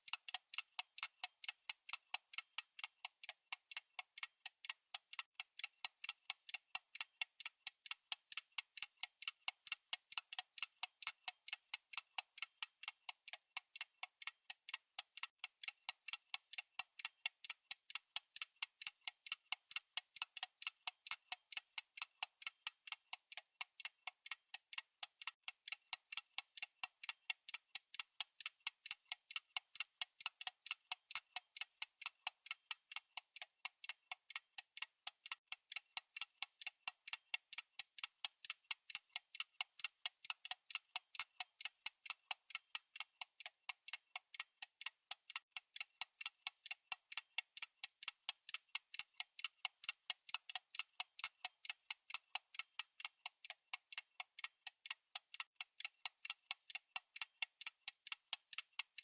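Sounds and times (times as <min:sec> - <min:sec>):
timer ticking: 0:00.0 - 0:59.0.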